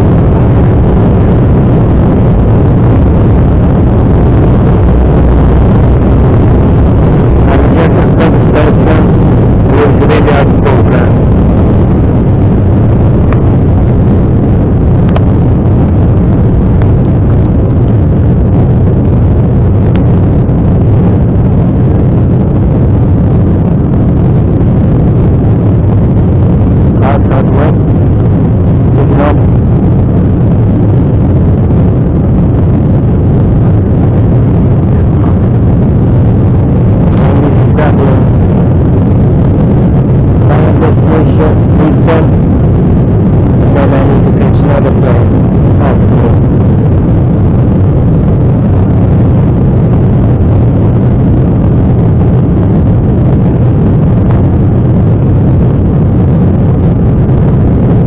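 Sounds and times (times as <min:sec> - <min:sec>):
jet engine and airflow roar: 0:00.0 - 0:58.0.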